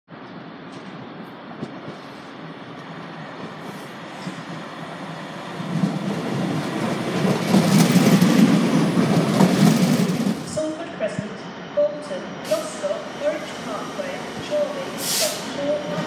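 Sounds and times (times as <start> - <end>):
train wheels rolling on rails: 0.2 - 16.0.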